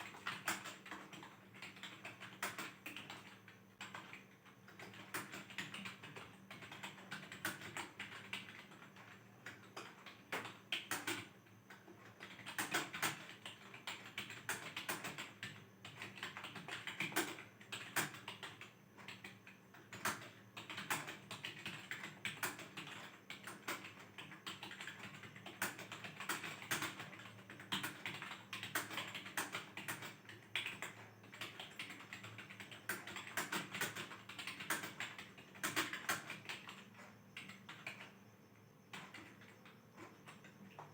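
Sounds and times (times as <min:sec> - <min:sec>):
fast typing on keyboard: 0:00.0 - 0:38.2, 0:38.9 - 0:40.9.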